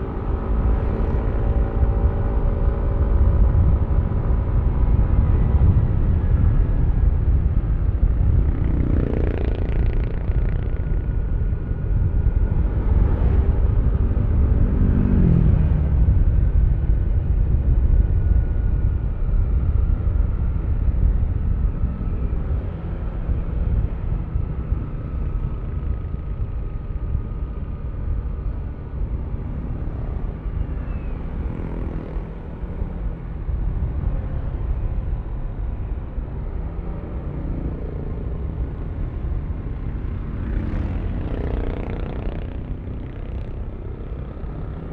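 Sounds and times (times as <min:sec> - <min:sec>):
wind rumble on microphone: 0:00.0 - 0:44.9.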